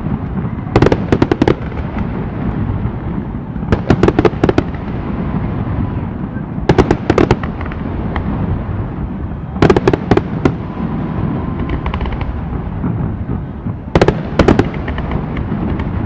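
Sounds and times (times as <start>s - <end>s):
fireworks crackling: 0.0s - 16.0s
low rumble of fireworks booms: 0.0s - 16.0s.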